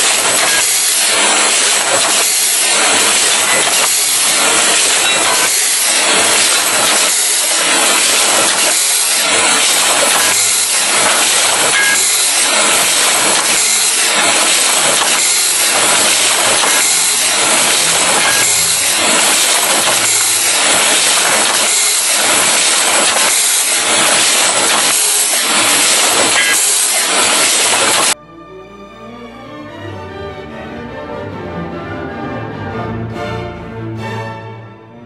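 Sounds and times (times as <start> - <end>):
filling machine hissing: 0.0 - 28.2.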